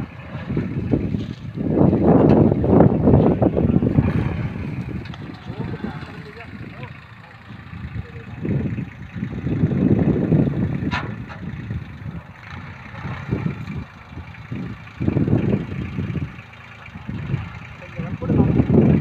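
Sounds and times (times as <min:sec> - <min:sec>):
tractor diesel engine rumbling: 0:00.0 - 0:19.0.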